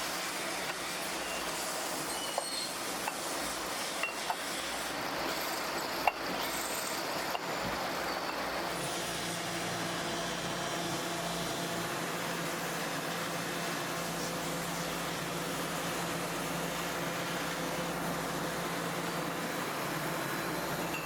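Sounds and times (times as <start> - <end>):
workshop machinery noise: 0.0 - 21.0.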